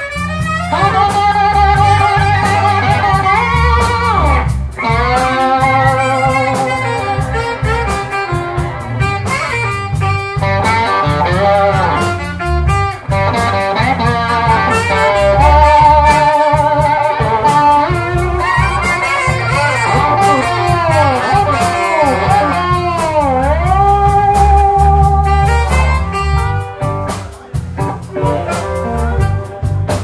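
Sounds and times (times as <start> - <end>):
saxophone long held notes: 0.0 - 27.0
blues band playing: 0.0 - 30.0.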